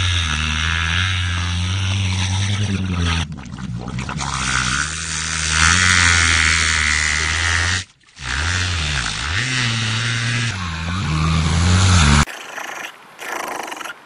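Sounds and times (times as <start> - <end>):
low buzzing motor drone: 0.0 - 12.3.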